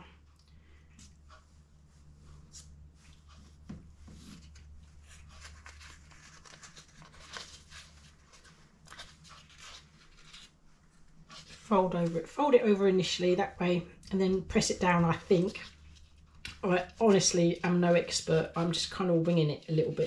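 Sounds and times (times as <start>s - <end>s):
low steady hum: 0.0s - 20.0s
parchment and pastry rustling: 1.0s - 20.0s.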